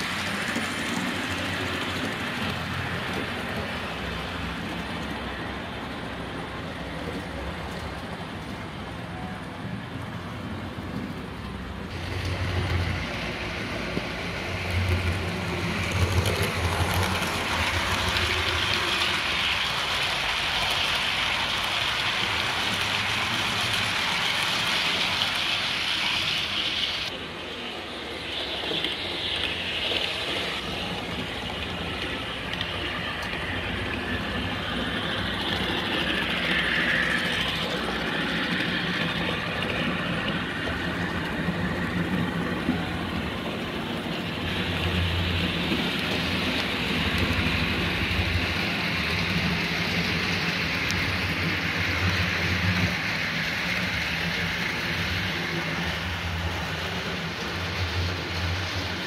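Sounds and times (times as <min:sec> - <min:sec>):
model train wheels rolling: 0:00.0 - 0:09.2, 0:10.2 - 0:59.0.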